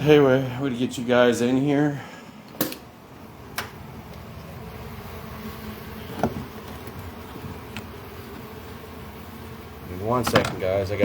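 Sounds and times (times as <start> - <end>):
honeybees buzzing: 1.6 - 11.0.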